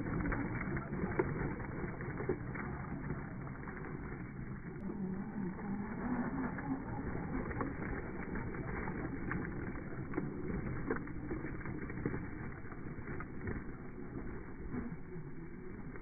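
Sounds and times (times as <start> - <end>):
toy car rolling over gravel: 0.0 - 16.0.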